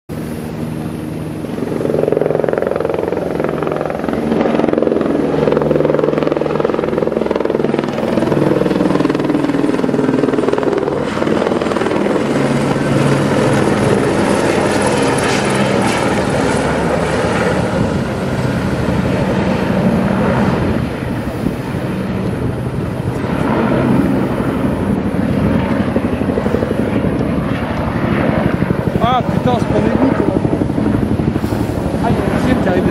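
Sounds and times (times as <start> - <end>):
helicopter rotor beating: 0.1 - 32.9.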